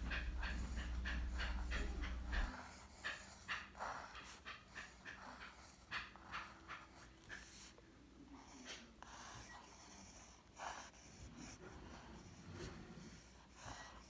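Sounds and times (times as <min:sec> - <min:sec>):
pencil scratching on paper: 0:00.0 - 0:14.0.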